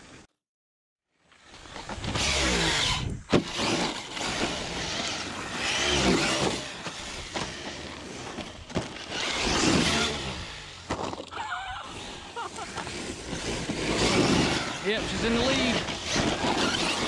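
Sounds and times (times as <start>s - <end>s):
electric motor whining: 1.4s - 10.9s, 11.7s - 17.0s.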